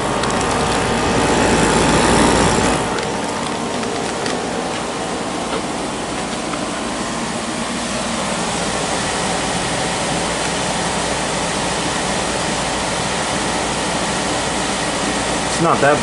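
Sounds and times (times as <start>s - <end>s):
window air conditioner running: 0.0s - 16.0s.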